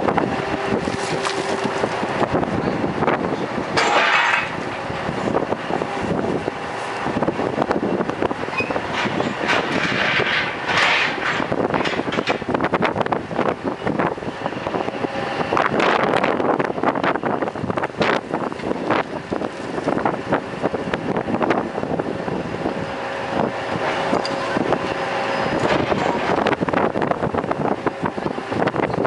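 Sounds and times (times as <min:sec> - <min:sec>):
heavy mining machinery running: 0:00.0 - 0:29.0
wind gusting over microphone: 0:00.0 - 0:29.0.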